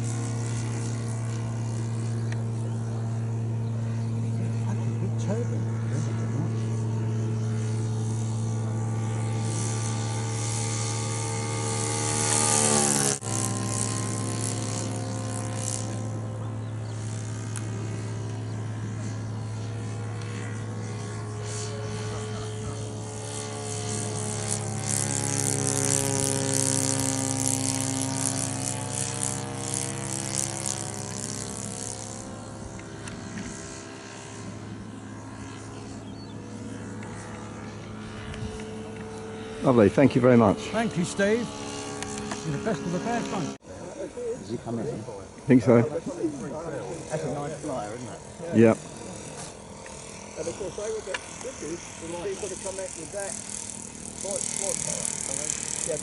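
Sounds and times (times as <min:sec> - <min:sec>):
model aircraft engine droning: 0:00.0 - 0:56.0.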